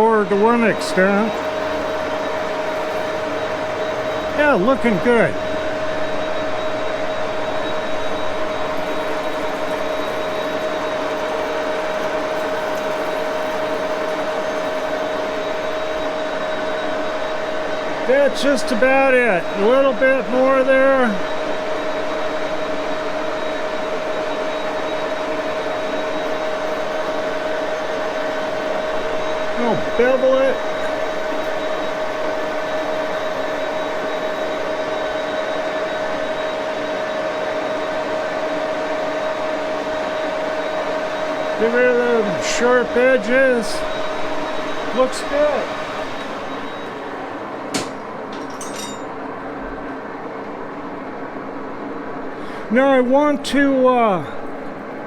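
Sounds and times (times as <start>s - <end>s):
lathe running with whine: 0.0s - 55.0s.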